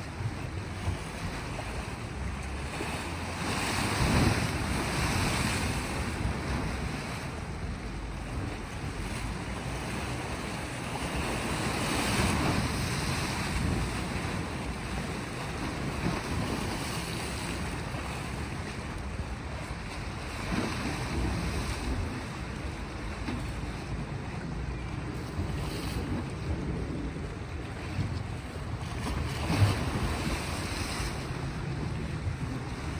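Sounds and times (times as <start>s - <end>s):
waves washing against rocks: 0.0s - 32.9s
wind buffeting microphone: 0.0s - 32.9s.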